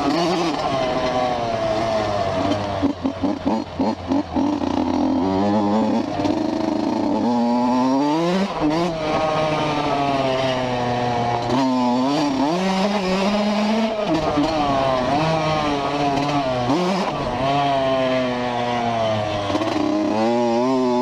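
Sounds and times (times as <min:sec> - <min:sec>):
small motorcycle engine accelerating: 0:00.0 - 0:21.0.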